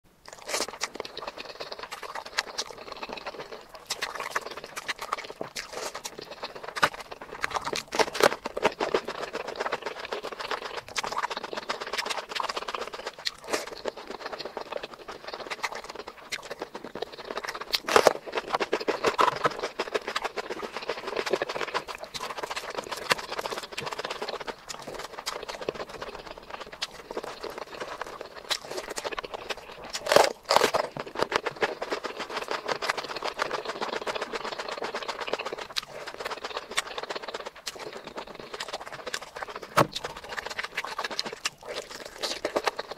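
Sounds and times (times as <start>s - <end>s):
person chewing with mouth noises: 0.1s - 42.9s
fingers mixing rice with curry: 0.4s - 42.9s.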